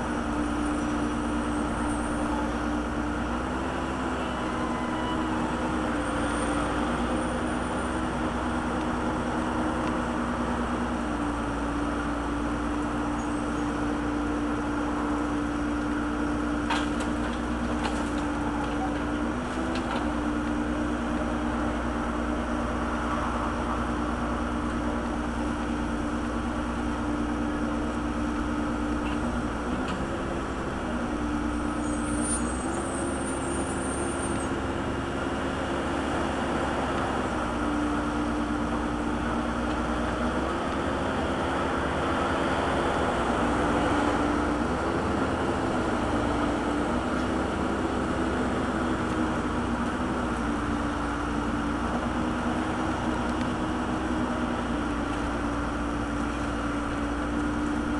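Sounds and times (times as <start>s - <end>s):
backhoe diesel engine running: 0.0s - 57.9s.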